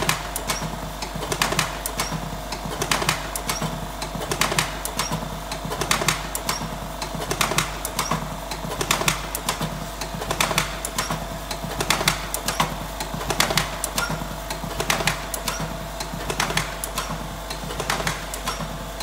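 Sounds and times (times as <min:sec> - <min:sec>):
machine motor hum: 0:00.0 - 0:19.0
sharp mechanical clicks: 0:00.0 - 0:19.0.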